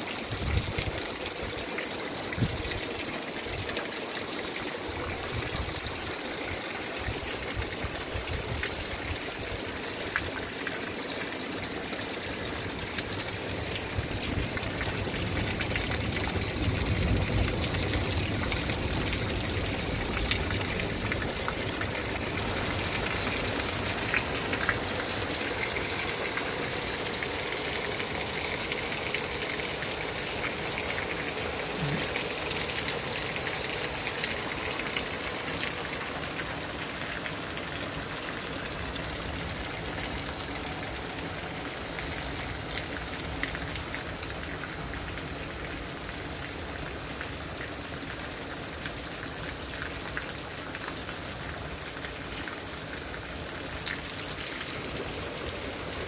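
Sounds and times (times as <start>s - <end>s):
steady rain falling: 0.0s - 56.0s
raindrops tapping close by: 4.8s - 56.0s.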